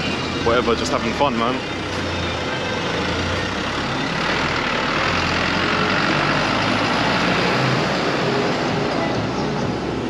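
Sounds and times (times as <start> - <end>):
vehicle engines passing: 0.0 - 10.0.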